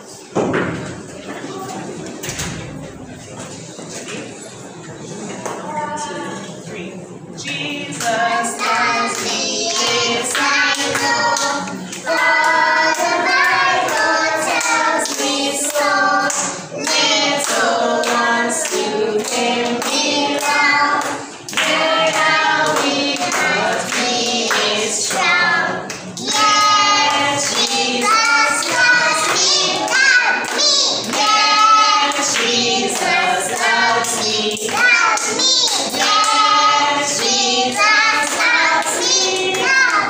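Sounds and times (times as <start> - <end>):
children singing: 7.4 - 40.0
hands clapping along: 7.4 - 40.0.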